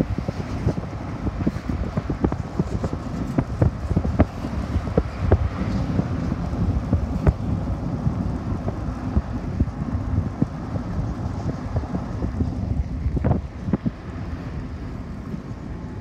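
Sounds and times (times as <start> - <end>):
vehicle cabin rumble: 0.0 - 16.0.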